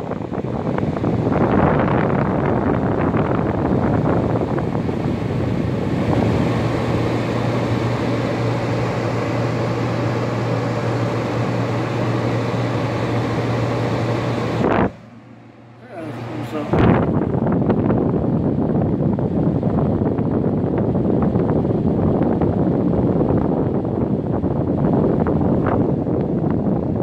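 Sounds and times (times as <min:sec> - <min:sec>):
air conditioner fan blowing: 0:00.0 - 0:27.0
steady low hum: 0:00.0 - 0:27.0.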